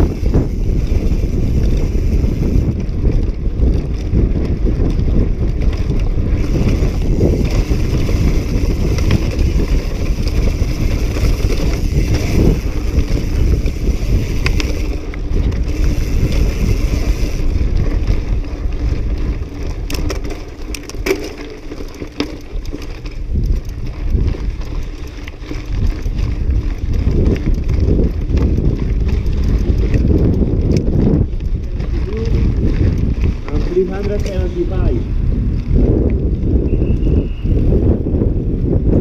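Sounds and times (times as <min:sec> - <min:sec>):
bike rattling over rocks: 0:00.0 - 0:39.0
wind on microphone: 0:00.0 - 0:39.0.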